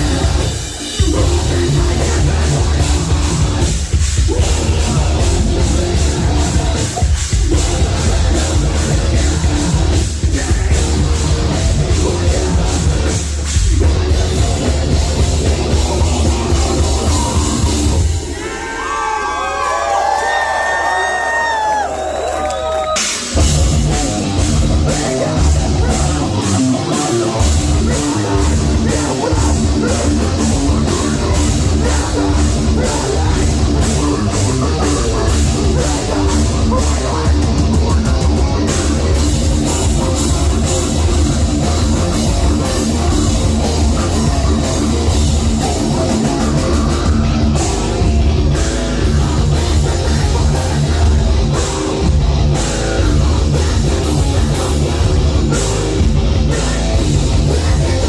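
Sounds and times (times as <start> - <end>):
rapid dense drumming: 0.0 - 18.6, 23.0 - 58.0
heavy bass: 0.0 - 22.1, 22.7 - 58.0
distorted guitars: 0.0 - 58.0.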